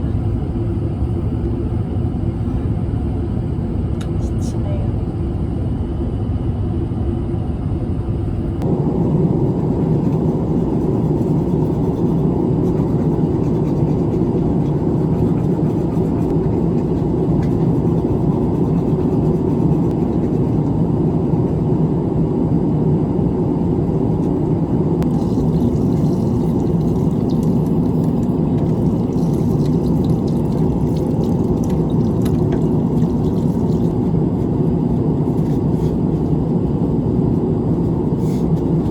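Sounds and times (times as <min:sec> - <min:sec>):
airliner cabin engine drone: 0:00.0 - 0:38.9.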